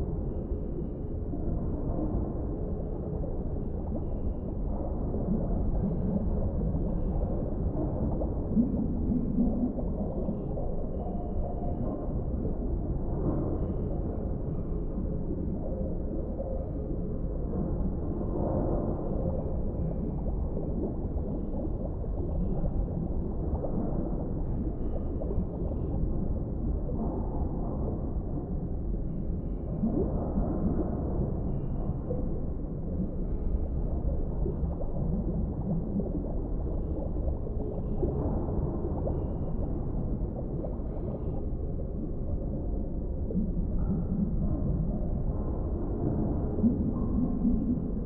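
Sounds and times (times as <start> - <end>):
underwater low rumble: 0.0 - 48.0.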